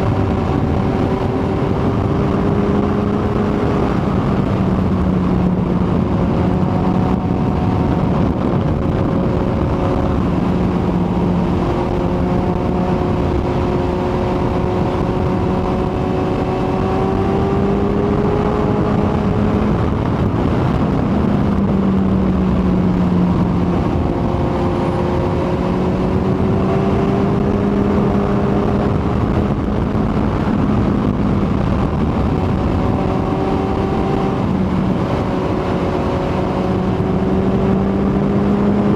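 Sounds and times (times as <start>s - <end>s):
motorcycle engine cruising: 0.0s - 38.9s
wind noise rushing: 0.0s - 38.9s.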